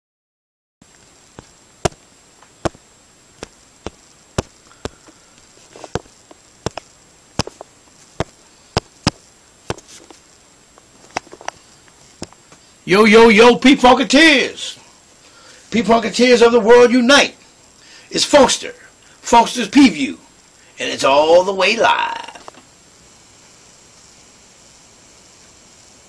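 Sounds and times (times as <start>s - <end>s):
faint high whine: 0.8s - 22.7s
faint hiss: 0.8s - 26.0s.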